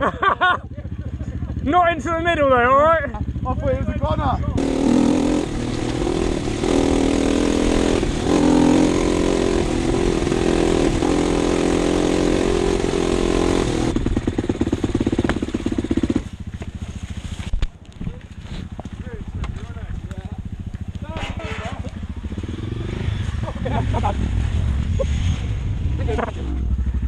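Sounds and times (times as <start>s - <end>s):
dirt bike engine revving: 1.6s - 17.5s, 18.4s - 27.0s.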